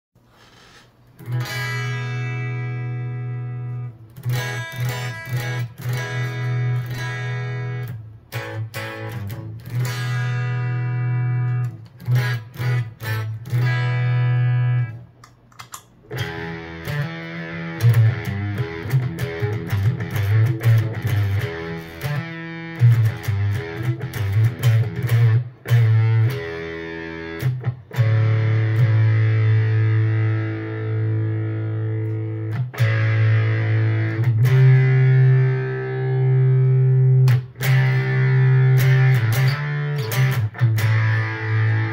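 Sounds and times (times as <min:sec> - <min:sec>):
fuzzy electric guitar chords: 0:01.2 - 0:15.2, 0:16.1 - 0:41.9.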